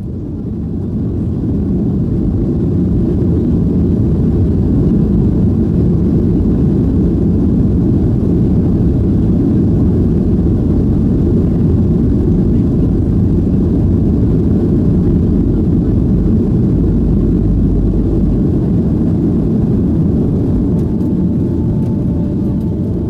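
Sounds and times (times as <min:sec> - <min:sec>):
jet engines low rumble: 0:00.0 - 0:23.0.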